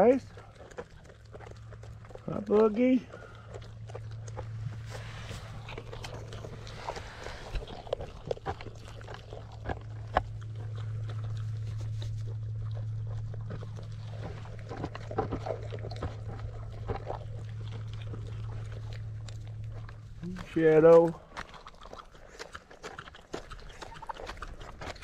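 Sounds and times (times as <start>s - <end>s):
farm animals moving about: 0.0s - 25.0s
steady low hum: 0.0s - 25.0s.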